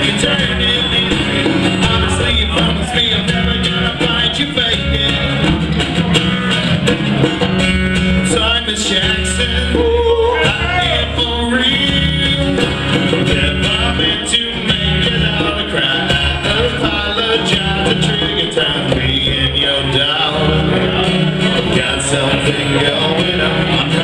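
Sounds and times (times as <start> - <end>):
live band playing country rock: 0.0 - 24.0.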